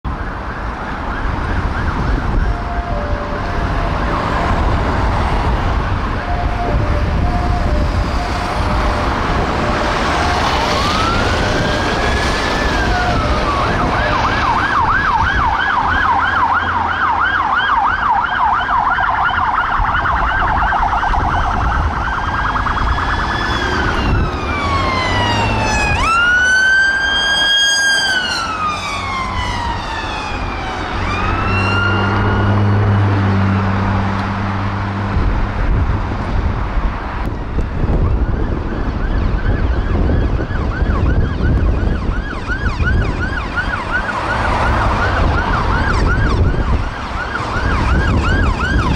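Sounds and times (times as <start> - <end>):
road traffic noise: 0.0 - 48.9
police car sirens wailing and yelping: 0.1 - 48.9.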